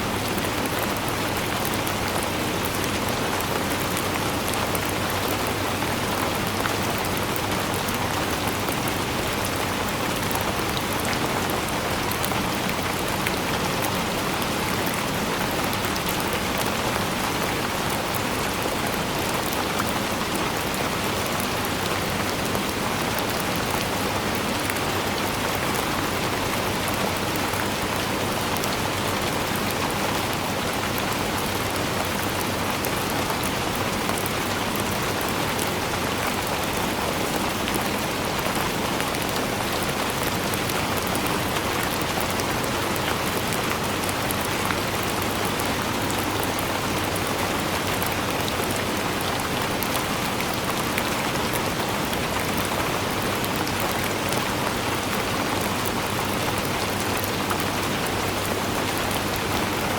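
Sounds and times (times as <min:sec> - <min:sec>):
raindrops pattering: 0:00.0 - 0:59.9.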